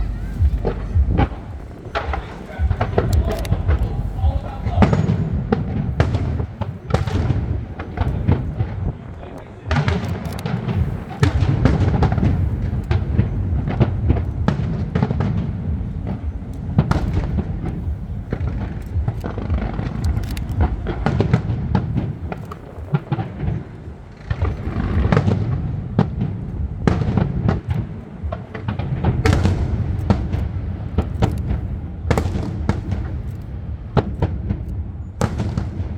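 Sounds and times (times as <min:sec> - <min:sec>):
music playing: 0:00.0 - 0:08.7, 0:09.6 - 0:35.9
fireworks bangs and crackles: 0:00.0 - 0:35.9
low rumble: 0:00.0 - 0:35.9.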